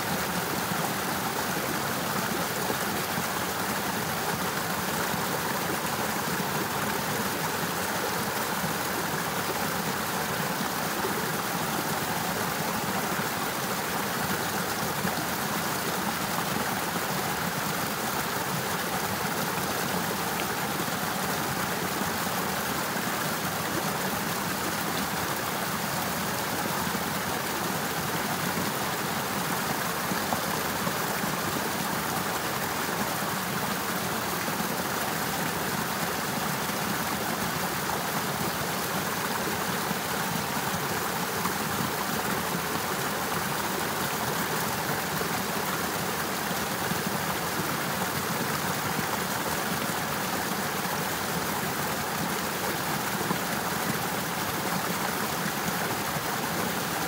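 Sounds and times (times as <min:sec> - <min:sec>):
water rushing in river: 0:00.0 - 0:57.0.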